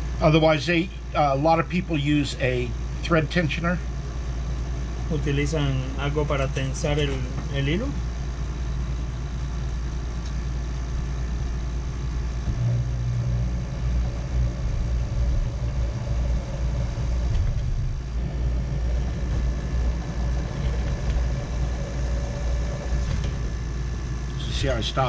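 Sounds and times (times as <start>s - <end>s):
low background rumble: 0.0s - 25.0s
motor whine: 0.0s - 25.0s
electric motor humming: 2.6s - 25.0s.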